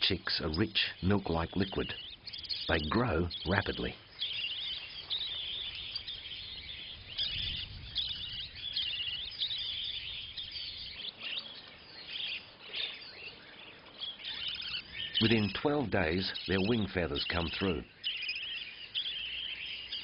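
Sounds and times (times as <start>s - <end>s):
budgerigars chirping: 0.0s - 20.0s.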